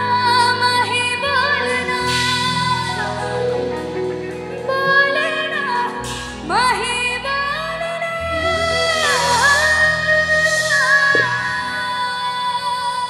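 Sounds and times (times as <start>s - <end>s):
band accompaniment: 0.0s - 13.0s
woman singing into microphone: 0.0s - 13.0s.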